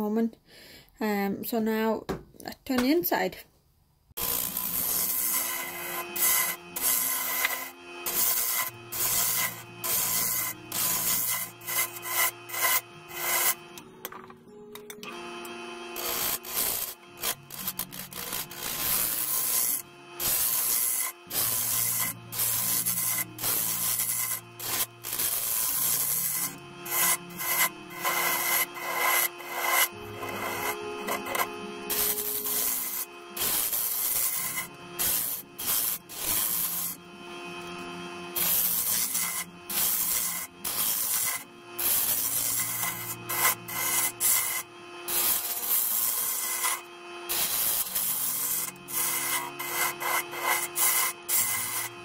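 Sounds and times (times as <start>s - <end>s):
wood lathe gouge scraping wood: 4.2s - 13.8s, 15.0s - 52.0s.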